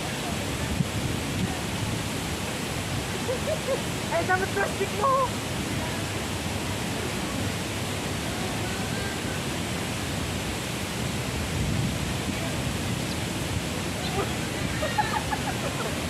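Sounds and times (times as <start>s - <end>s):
strong wind: 0.0s - 16.0s
wind rumbling on microphone: 0.0s - 16.0s.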